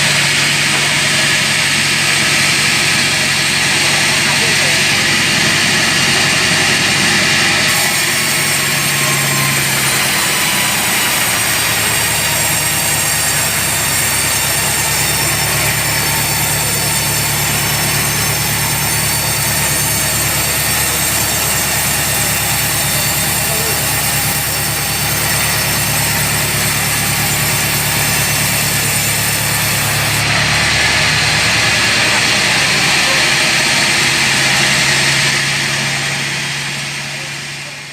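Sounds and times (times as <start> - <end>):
sawmill machinery hum: 0.0 - 37.9.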